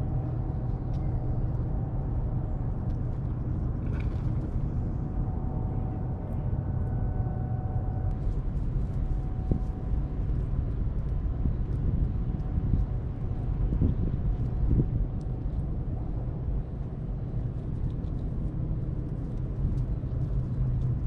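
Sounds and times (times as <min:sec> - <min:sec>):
faint steady hum: 0:00.0 - 0:21.0
low outdoor rumble: 0:00.0 - 0:21.0.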